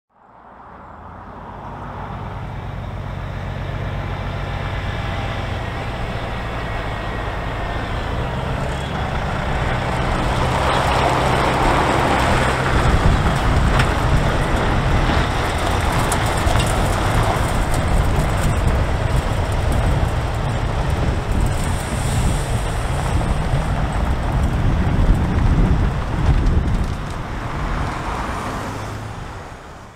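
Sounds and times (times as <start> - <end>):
truck diesel engine passing: 0.2 - 29.9.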